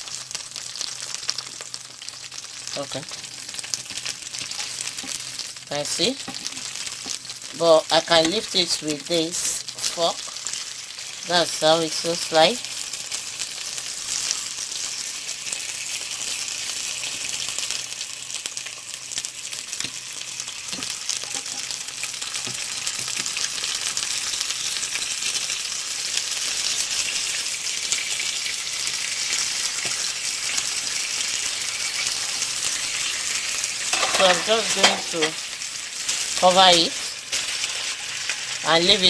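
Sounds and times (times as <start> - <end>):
chicken skin sizzling in a pan: 0.0 - 39.0.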